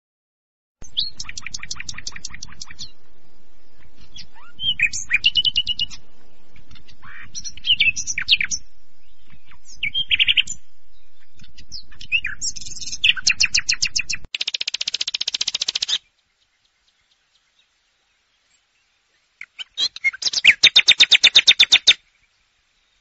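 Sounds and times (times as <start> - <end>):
nightingale singing: 0.8 - 23.0.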